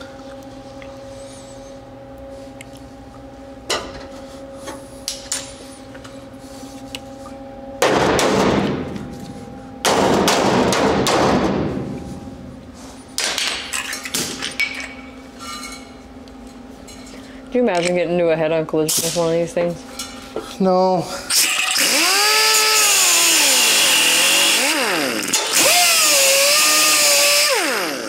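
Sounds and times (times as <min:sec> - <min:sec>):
steady hum: 0:00.0 - 0:25.6.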